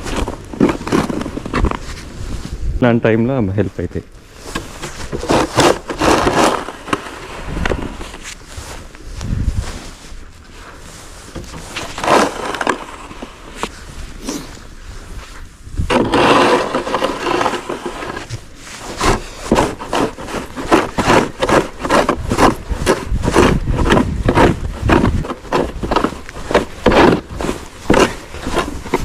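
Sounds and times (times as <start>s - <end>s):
snow being scraped: 0.0s - 2.6s, 4.4s - 29.0s.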